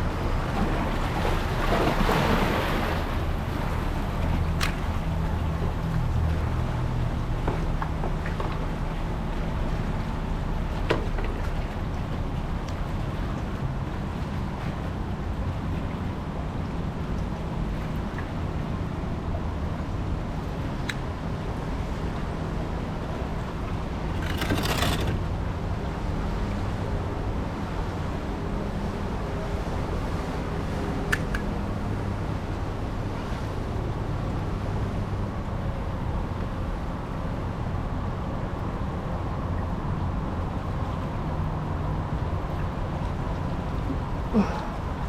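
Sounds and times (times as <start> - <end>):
wind and water rumble: 0.0 - 45.0.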